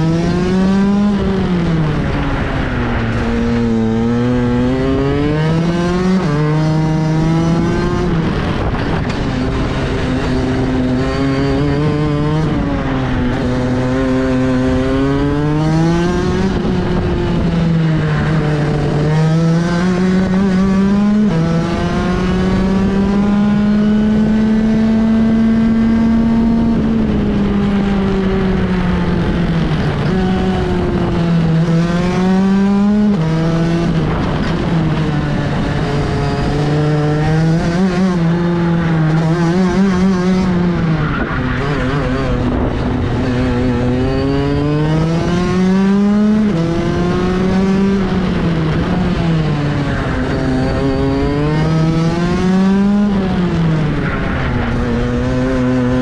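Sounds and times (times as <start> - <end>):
racing kart engine: 0.0 - 56.0.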